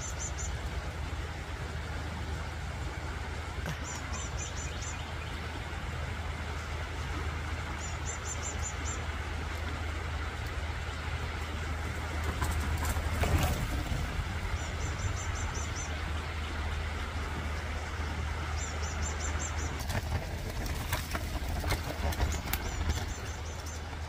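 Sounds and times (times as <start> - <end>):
flowing creek water: 0.0 - 24.0.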